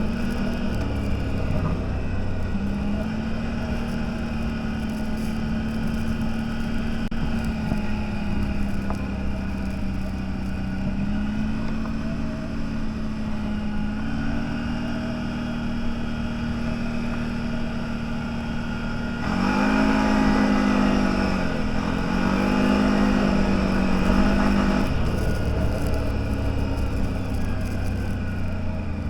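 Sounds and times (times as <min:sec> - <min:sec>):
off-road vehicle engine: 0:00.0 - 0:29.0.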